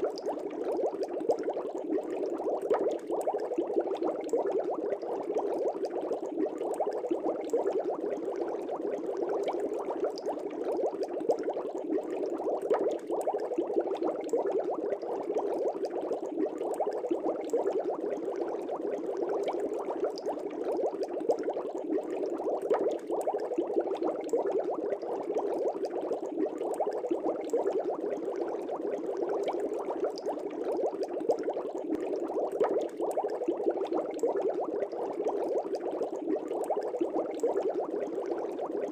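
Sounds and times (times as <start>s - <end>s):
aquarium air bubbles: 0.0s - 38.9s.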